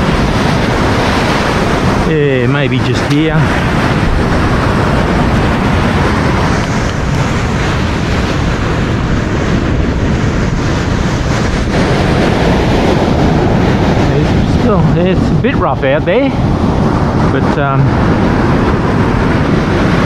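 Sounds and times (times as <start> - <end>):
surf breaking: 0.0 - 20.0
wind buffeting microphone: 0.0 - 20.0.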